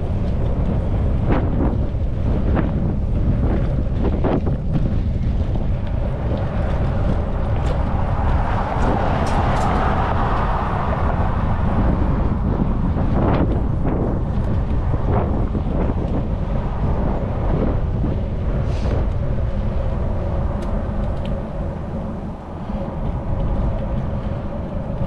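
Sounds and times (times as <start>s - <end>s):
passing vehicle: 0.0s - 25.0s
wind buffeting microphone: 0.0s - 25.0s.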